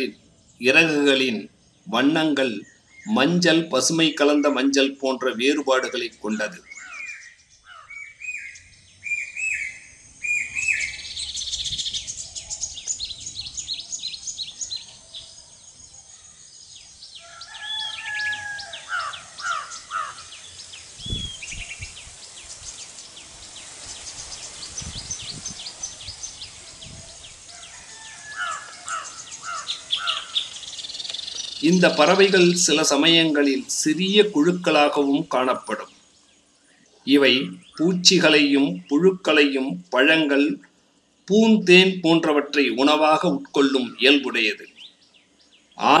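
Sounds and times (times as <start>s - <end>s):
bird chirping and twittering: 0.0s - 46.0s.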